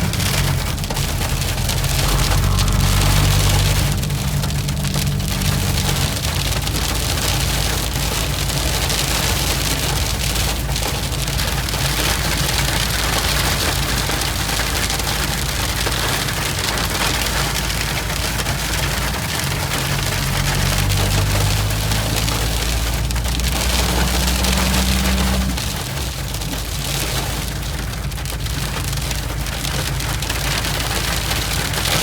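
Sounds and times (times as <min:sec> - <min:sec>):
hail hitting hard surfaces: 0:00.0 - 0:32.0.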